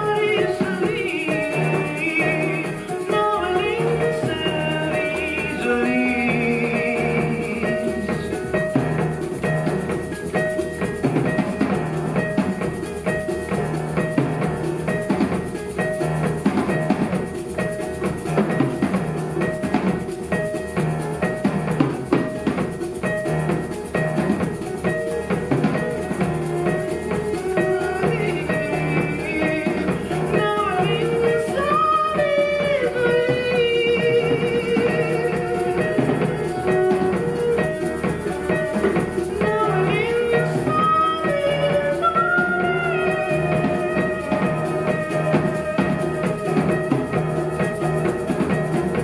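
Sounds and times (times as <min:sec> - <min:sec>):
drums: 0:00.0 - 0:49.0
shaker rattle: 0:00.0 - 0:49.0.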